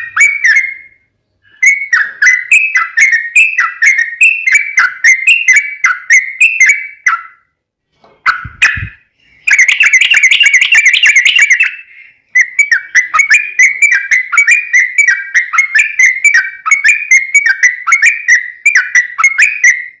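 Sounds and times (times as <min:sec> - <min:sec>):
bird trilling: 0:00.0 - 0:07.4, 0:08.2 - 0:20.0
bird chirping song: 0:00.0 - 0:20.0.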